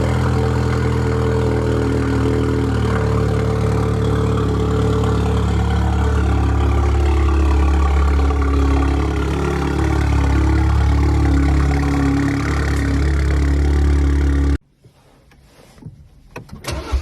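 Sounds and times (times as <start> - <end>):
vehicle engine idling: 0.0 - 14.6.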